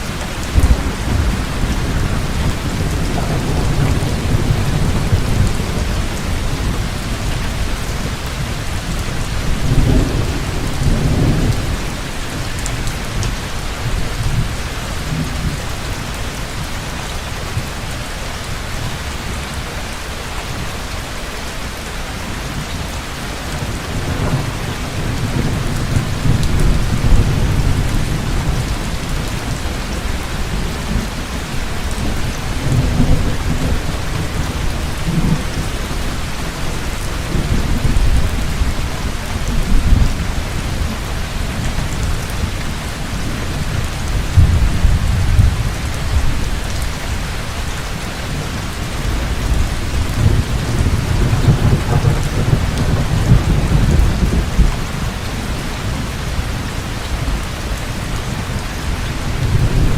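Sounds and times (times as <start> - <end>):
thunder rumbling: 0.0 - 16.0, 23.5 - 59.9
heavy rain pouring: 0.0 - 59.9.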